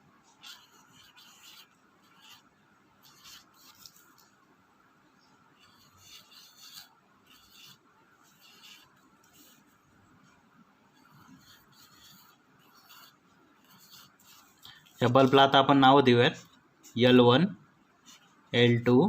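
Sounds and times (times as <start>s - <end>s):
pen scratching on surface: 0.2s - 4.3s, 5.5s - 17.0s, 18.0s - 18.4s.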